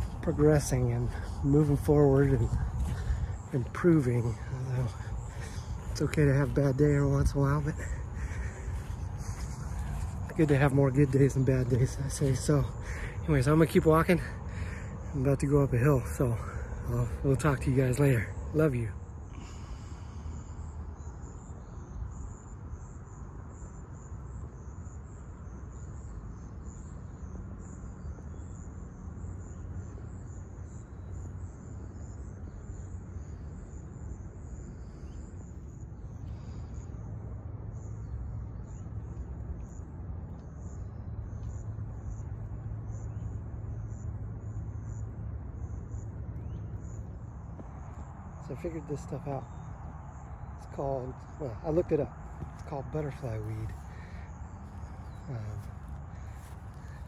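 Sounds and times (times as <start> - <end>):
distant road traffic rumble: 0.0 - 57.0
insects chirping trill: 0.0 - 57.0.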